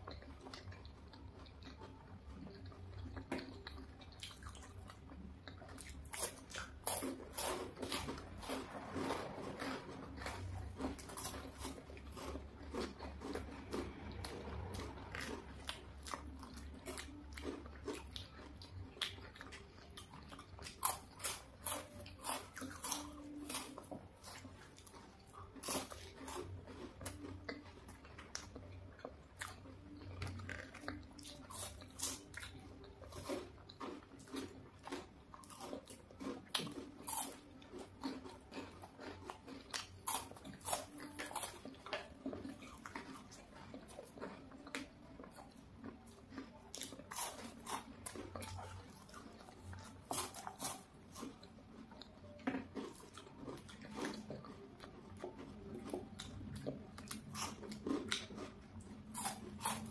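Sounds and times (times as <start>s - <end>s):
crunching wafer bars: 0.0s - 59.9s.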